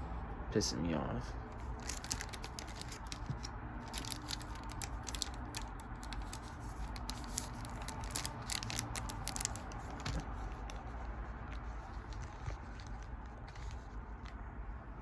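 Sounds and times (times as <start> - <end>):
room hum: 0.0 - 15.0
trading cards crinkling and flicking: 1.5 - 14.5.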